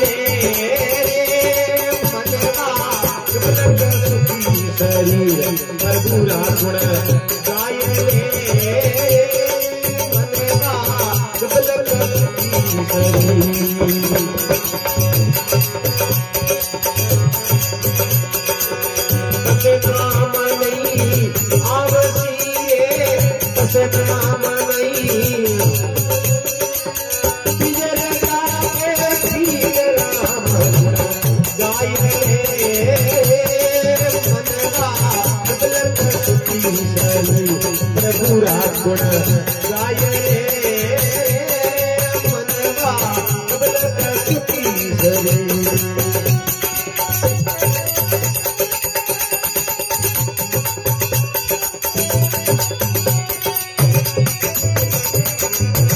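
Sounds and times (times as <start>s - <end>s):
dholak drum rhythm: 0.0s - 55.9s
hand cymbals jingling: 0.0s - 55.9s
harmonium melody: 0.0s - 55.9s.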